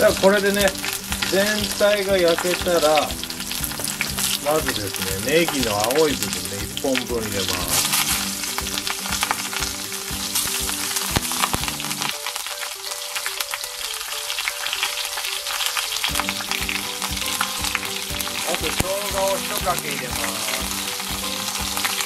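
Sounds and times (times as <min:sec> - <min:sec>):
pork sizzling in fat: 0:00.0 - 0:22.0.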